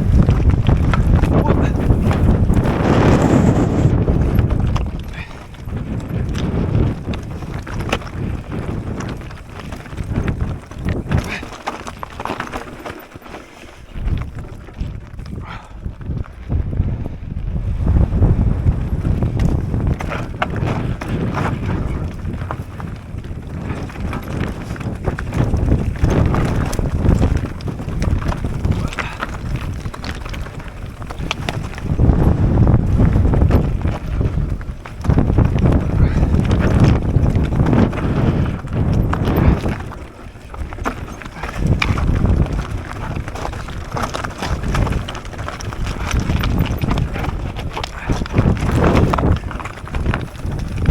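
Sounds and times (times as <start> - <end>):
bike clicks and rattles: 0.0 - 50.9
bike tyres on dirt trail: 0.0 - 50.9
wind buffeting microphone: 0.0 - 50.9.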